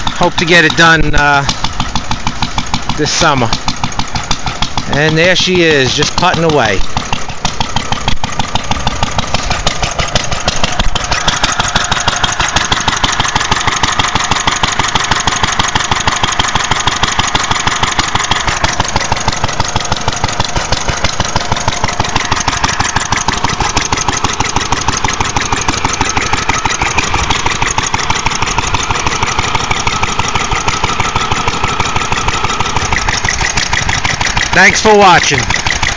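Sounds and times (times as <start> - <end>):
antique engine idling: 0.0 - 35.9.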